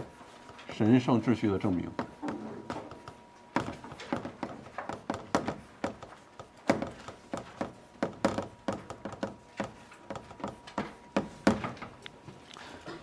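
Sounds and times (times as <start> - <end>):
chalk tapping and scratching: 0.0 - 11.7.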